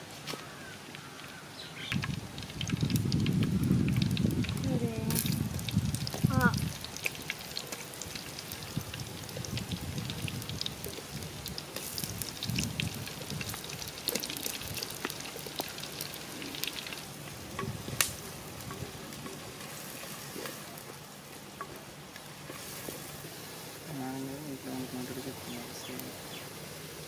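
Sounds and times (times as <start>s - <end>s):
wood fire crackling: 0.0s - 27.0s
water boiling in a pot: 1.6s - 27.0s.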